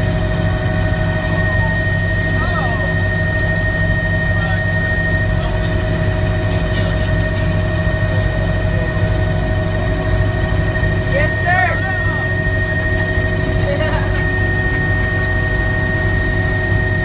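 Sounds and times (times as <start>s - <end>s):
helicopter rotor and engine drone: 0.0s - 17.0s
high-pitched whine: 0.0s - 17.0s.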